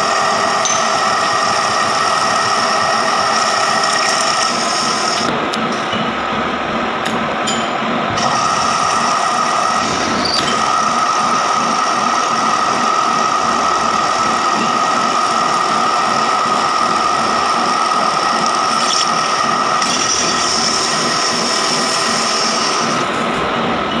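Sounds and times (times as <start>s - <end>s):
metal lathe cutting steel: 0.0s - 5.3s, 7.4s - 24.0s
higher whine: 0.0s - 24.0s.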